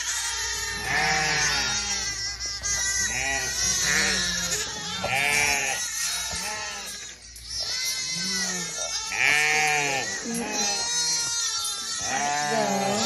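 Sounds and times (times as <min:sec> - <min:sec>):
sheep and lambs bleating: 0:00.0 - 0:13.0.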